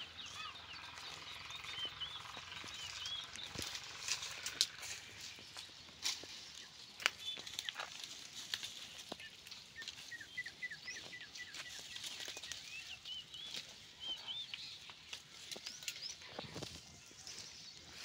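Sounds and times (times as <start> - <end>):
footsteps on dry leaves and twigs: 0.0 - 18.0.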